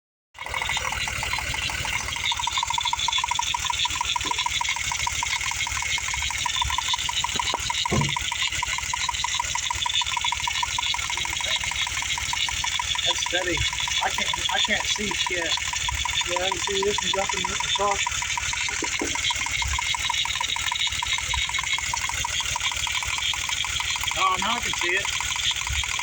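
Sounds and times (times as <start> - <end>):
car engine idling with misfire: 0.4 - 26.0.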